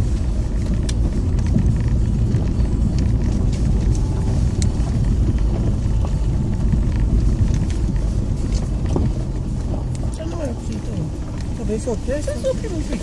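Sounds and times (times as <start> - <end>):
tyres rolling on gravel: 0.0 - 13.0.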